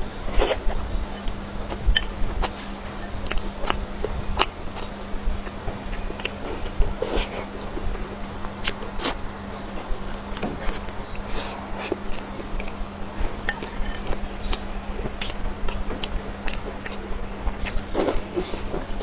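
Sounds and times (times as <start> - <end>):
chewing: 0.0 - 19.0
steady low hum: 0.0 - 19.0.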